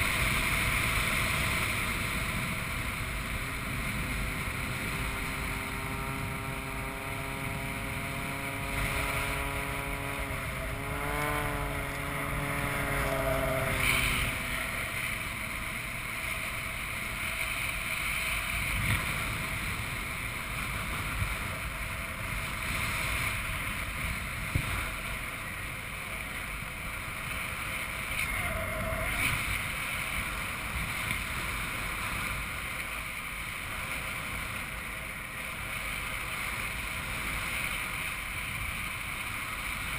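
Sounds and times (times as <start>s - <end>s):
propeller airplane engine droning: 0.0s - 39.9s.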